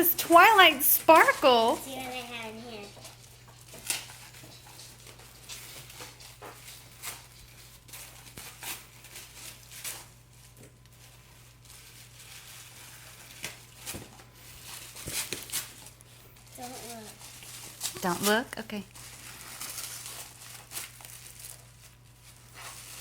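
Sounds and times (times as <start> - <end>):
wrapping paper crinkling: 0.0 - 23.0.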